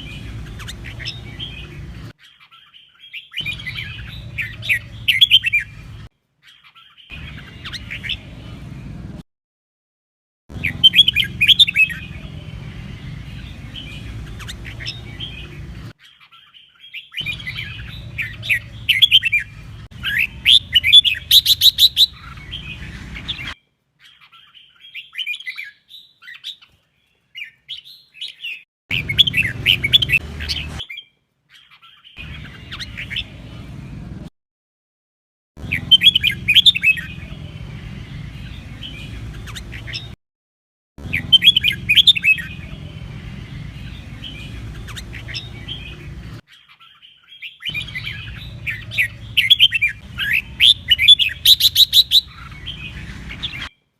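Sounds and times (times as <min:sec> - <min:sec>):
bird chirping: 0:00.0 - 0:09.2, 0:10.5 - 0:34.3, 0:35.6 - 0:40.2, 0:41.0 - 0:53.9.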